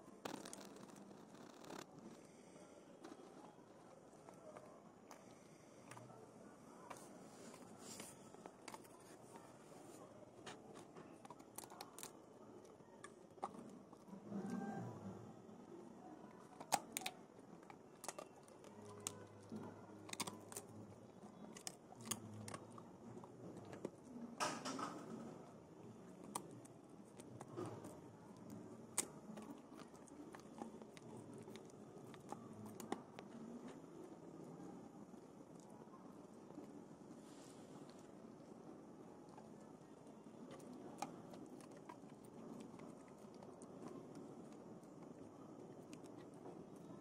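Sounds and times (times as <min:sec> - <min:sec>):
dog chewing dry bread: 0:06.9 - 0:14.2, 0:16.2 - 0:47.0.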